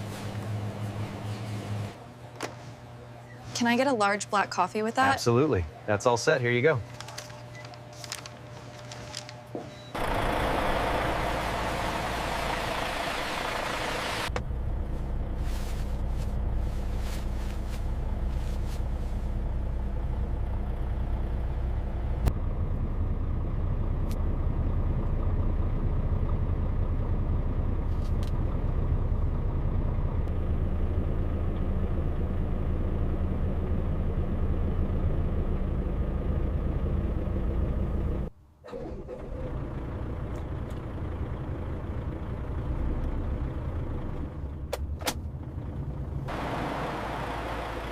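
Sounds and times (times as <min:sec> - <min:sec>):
truck engine rumbling: 0:00.0 - 0:47.9.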